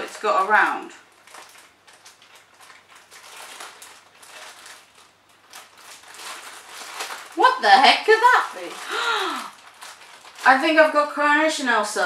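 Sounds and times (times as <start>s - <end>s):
foil wrapper crinkling: 0.0s - 11.2s.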